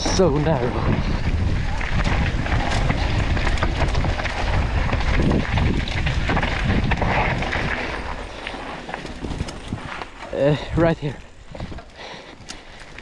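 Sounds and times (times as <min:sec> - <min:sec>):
bike clattering over rough ground: 0:00.0 - 0:13.0
bike tyre noise: 0:00.0 - 0:13.0
wind buffeting microphone: 0:00.0 - 0:13.0.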